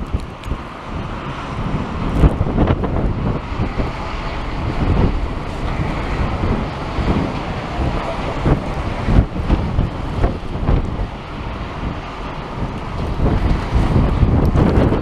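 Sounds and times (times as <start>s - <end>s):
strong gusting wind on microphone: 0.0s - 15.0s.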